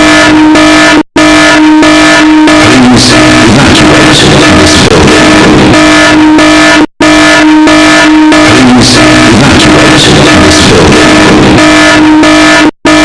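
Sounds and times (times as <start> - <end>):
distorted alarm tone: 0.0 - 13.0.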